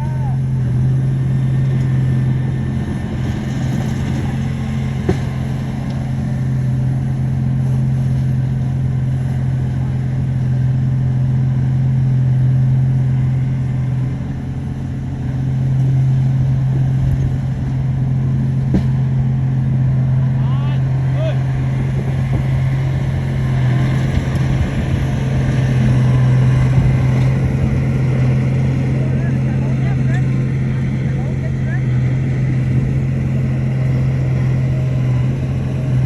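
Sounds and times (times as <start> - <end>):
heavy machinery diesel engine: 0.0 - 36.0.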